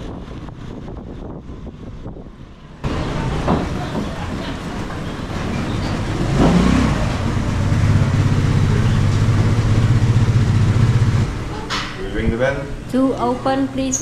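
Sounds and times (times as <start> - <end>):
rush of traffic noise: 0.0 - 12.9
vehicle engine humming: 0.0 - 14.0.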